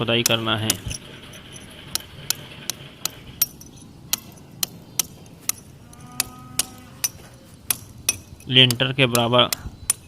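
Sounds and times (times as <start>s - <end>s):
hammer and chisel striking brick: 0.0s - 10.0s.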